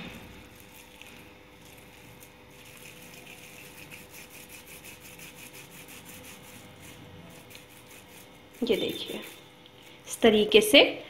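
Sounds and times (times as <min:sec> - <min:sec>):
hands rubbing and squishing dough: 0:00.0 - 0:10.1.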